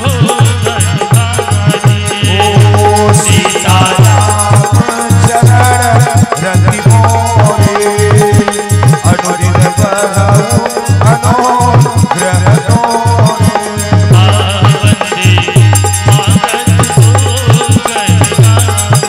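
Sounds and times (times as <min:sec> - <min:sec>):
hand cymbals jingling: 0:00.0 - 0:19.0
hand drum beating: 0:00.0 - 0:19.0
harmonium chords: 0:00.0 - 0:19.0.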